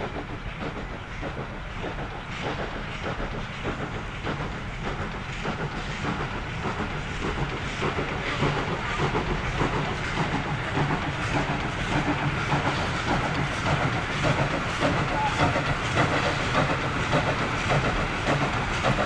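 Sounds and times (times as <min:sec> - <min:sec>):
steam hissing: 0:00.0 - 0:19.0
steam locomotive chuffing: 0:00.0 - 0:19.0.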